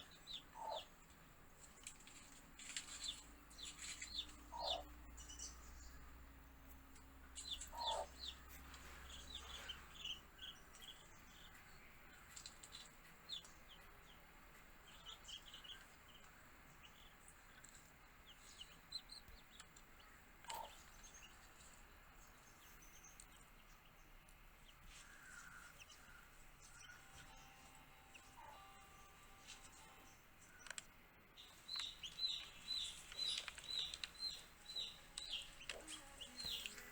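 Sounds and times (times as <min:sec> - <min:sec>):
baby chicks peeping: 0:00.0 - 0:36.9.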